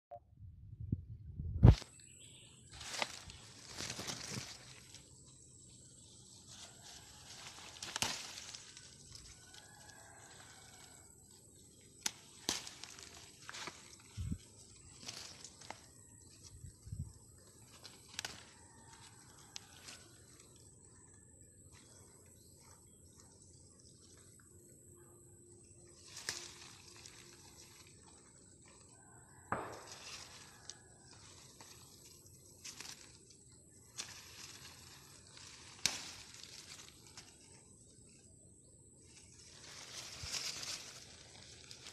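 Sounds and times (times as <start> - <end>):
leaves rustling: 1.6 - 21.1, 25.6 - 38.3, 38.9 - 41.9.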